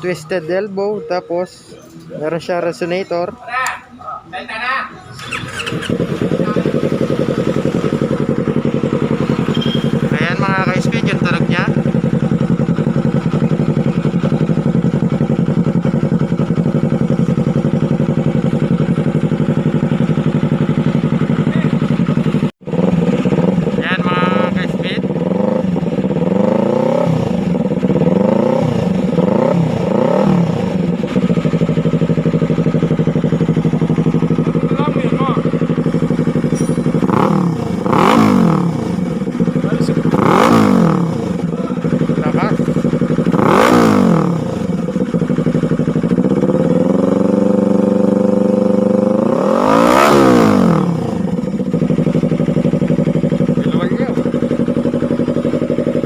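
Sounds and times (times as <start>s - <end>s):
motorcycle engine revving: 5.0s - 56.0s.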